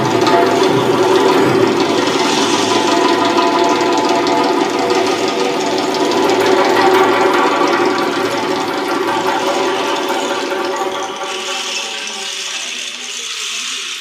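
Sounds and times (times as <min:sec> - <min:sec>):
goblet drum fast roll: 0:00.0 - 0:13.8.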